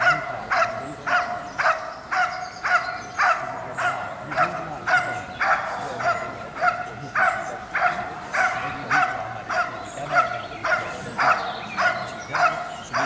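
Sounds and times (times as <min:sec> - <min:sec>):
dog barking: 0:00.0 - 0:13.0.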